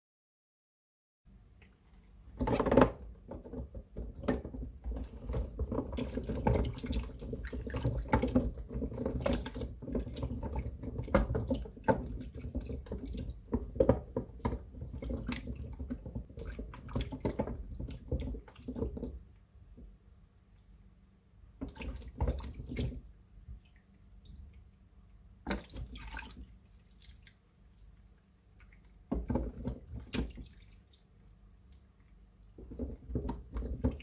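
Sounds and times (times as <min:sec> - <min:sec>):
soap being washed in water: 0:01.4 - 0:34.0.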